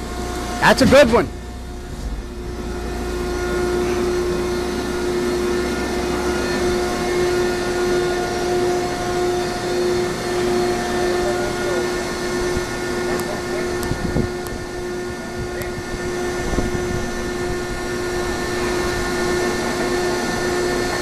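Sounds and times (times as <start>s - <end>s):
baler humming with whine: 0.0s - 21.0s
higher machine tone: 0.0s - 21.0s.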